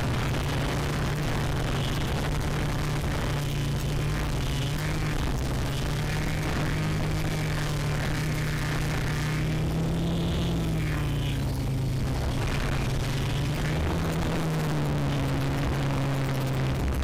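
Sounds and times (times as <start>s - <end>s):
drone motors humming: 0.0s - 17.0s.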